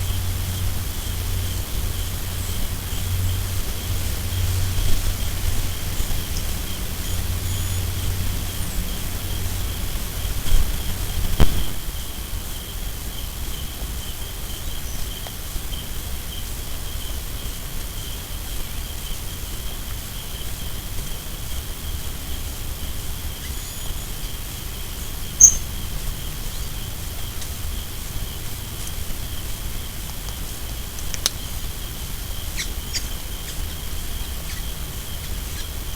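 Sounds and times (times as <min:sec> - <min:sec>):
insects trilling: 0:00.0 - 0:35.9.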